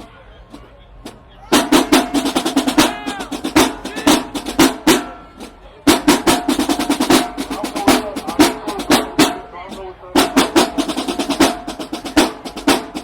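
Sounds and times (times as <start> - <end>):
snare drums: 0.0 - 13.0
tenor drum strikes: 1.6 - 9.5, 10.2 - 13.0.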